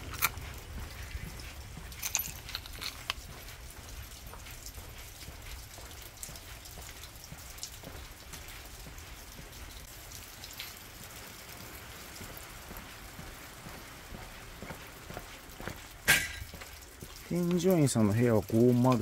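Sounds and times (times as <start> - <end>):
light rain hissing: 0.0 - 19.0.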